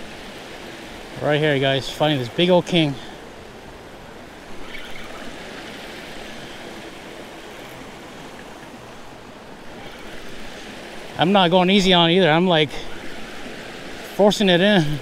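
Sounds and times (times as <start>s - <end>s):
river water rushing over weir: 0.0s - 15.0s.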